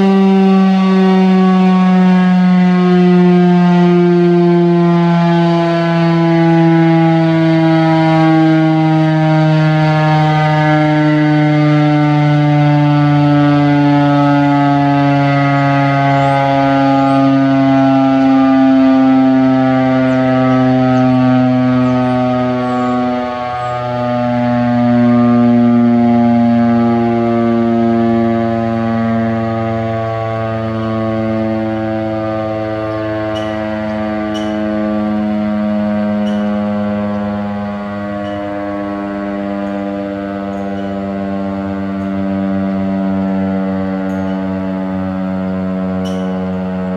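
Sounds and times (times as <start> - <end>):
warning siren steady tone: 0.0 - 46.9.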